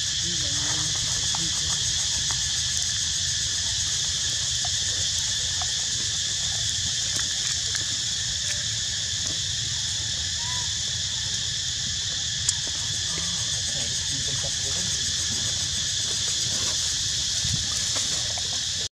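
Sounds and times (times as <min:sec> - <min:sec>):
insects buzzing: 0:00.0 - 0:18.9.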